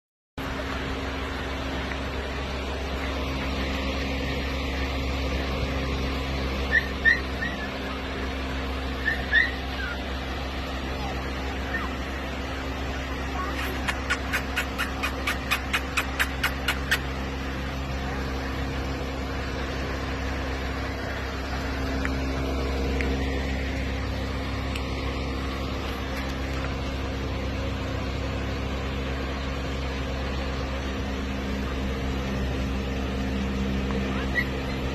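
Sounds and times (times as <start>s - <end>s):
machine hum: 0.4s - 34.9s.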